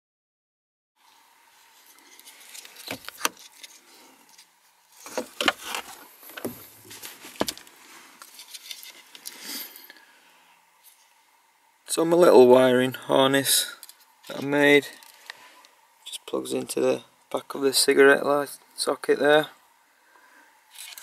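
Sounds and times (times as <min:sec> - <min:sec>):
faint steady hum: 0:01.0 - 0:21.0.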